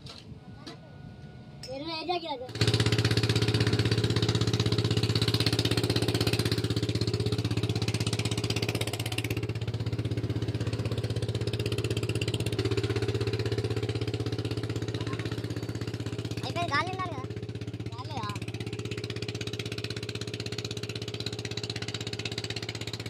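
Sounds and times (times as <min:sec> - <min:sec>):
engine idling: 0:02.1 - 0:23.0.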